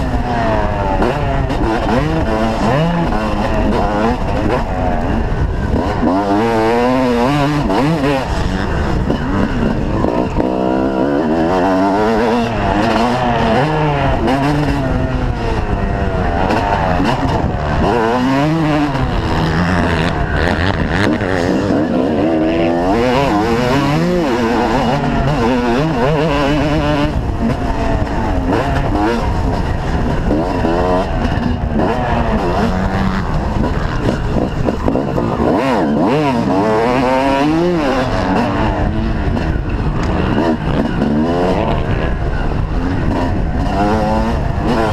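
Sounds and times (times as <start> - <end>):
motorcycle engines revving hard: 0.0 - 44.9.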